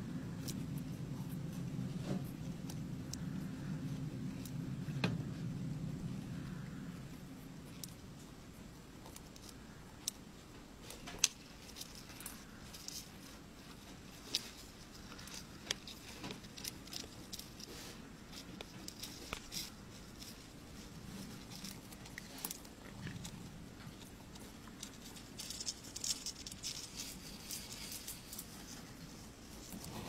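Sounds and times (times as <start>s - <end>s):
faint low hum: 0.0s - 30.0s
insects scrabbling clicks and scratches: 0.1s - 30.0s.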